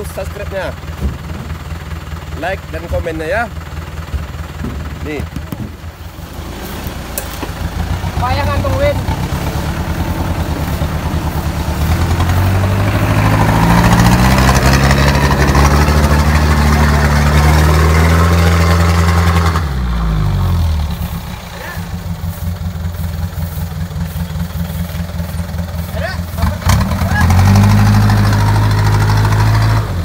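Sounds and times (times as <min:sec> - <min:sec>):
diesel truck engine revving: 0:00.0 - 0:30.0.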